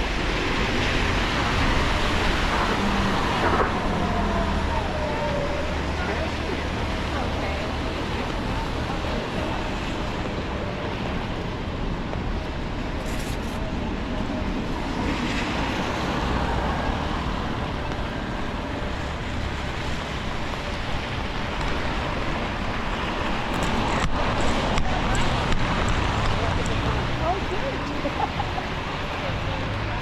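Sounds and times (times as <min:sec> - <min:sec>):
city traffic: 0:00.0 - 0:30.0
tyres hissing on wet road: 0:00.0 - 0:30.0.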